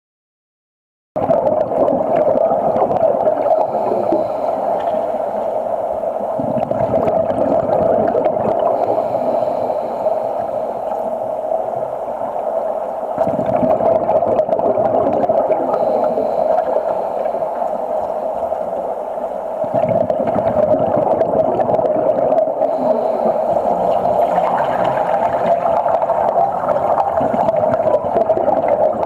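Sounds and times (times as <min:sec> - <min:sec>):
gurgling bubbles: 0:01.2 - 0:29.0.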